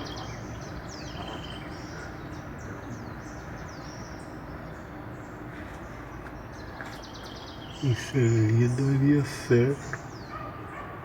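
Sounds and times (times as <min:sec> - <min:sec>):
steady low hum: 0:00.0 - 0:10.3
small birds chirping: 0:00.0 - 0:10.8.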